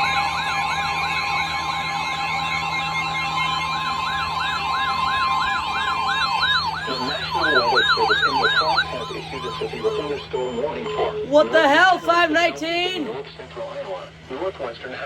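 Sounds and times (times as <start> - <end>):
electronic siren warbles: 0.0 - 13.2
steady high alert tone: 0.0 - 13.2.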